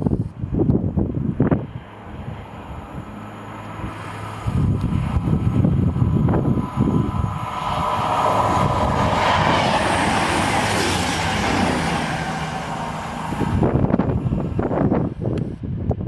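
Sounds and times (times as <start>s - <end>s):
train passing at speed: 0.0s - 15.8s
wind gusts on microphone: 0.0s - 16.0s.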